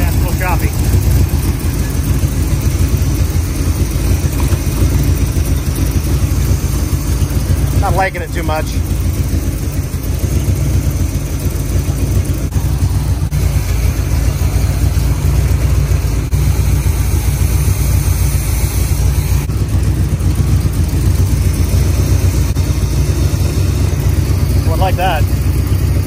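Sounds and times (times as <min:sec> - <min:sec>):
car engine choppy idle: 0:00.0 - 0:26.0.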